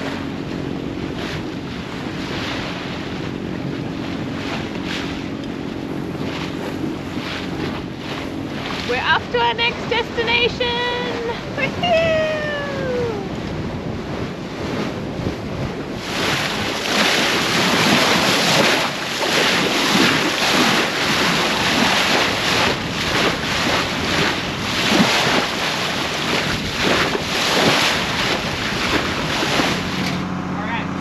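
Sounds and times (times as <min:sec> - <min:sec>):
bow wave splashing along hull: 0:00.0 - 0:31.0
wind buffeting microphone: 0:00.0 - 0:31.0.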